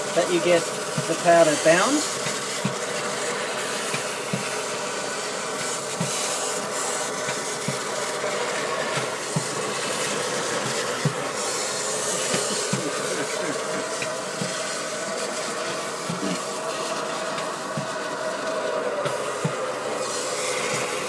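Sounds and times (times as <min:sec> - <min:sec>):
vacuum sucking powder: 0:00.0 - 0:21.0.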